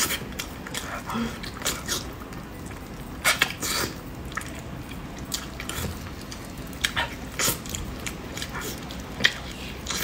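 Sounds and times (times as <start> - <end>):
lip smacking: 0.0 - 10.0
sucking and chewing: 0.0 - 10.0.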